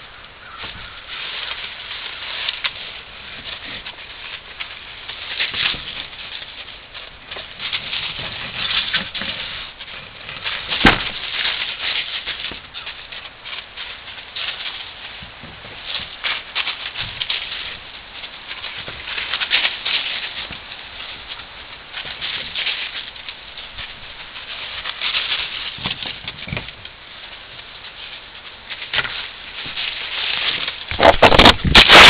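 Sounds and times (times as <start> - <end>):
dry leaves rustling and crackling: 0.0 - 32.0.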